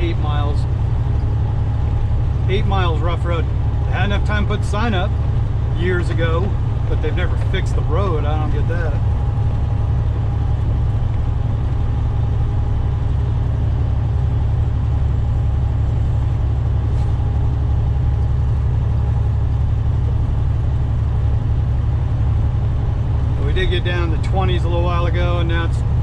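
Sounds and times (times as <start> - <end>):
faint steady whine: 0.0 - 26.0
truck engine and tyres rumbling: 0.0 - 26.0.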